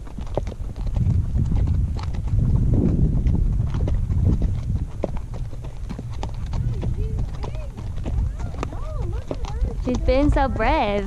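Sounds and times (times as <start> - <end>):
hooves clip-clopping on dirt: 0.0 - 11.0
low rumbling noise: 0.5 - 11.0.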